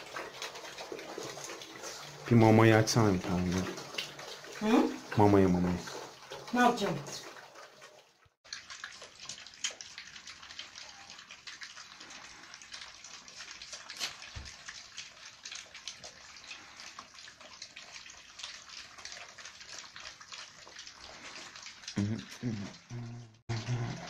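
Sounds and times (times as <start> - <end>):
puppies lapping and chewing: 0.0 - 24.0.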